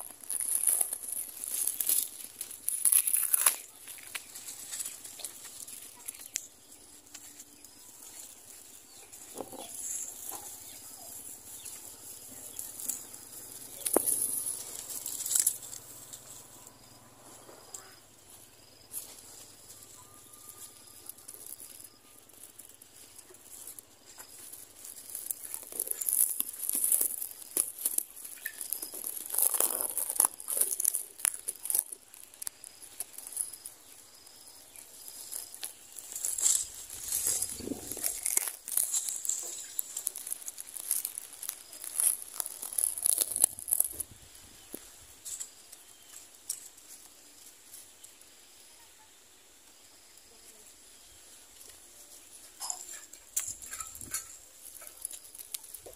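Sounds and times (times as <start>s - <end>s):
dry grass rustling: 0.0s - 55.9s.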